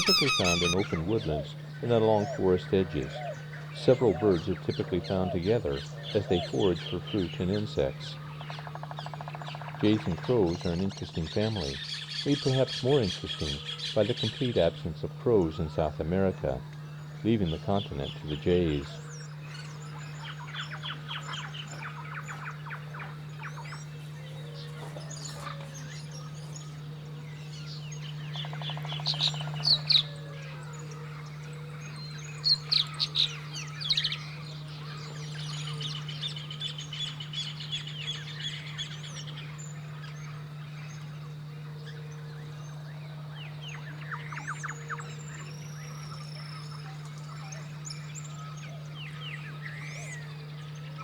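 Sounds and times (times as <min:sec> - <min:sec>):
birds chirping and calling: 0:00.0 - 0:51.0
steady low hum: 0:00.0 - 0:51.0.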